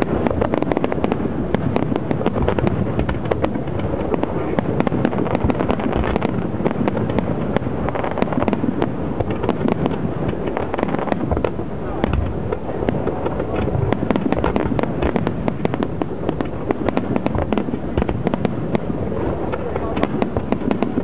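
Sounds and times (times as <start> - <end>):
fireworks crackling bangs: 0.0 - 21.0.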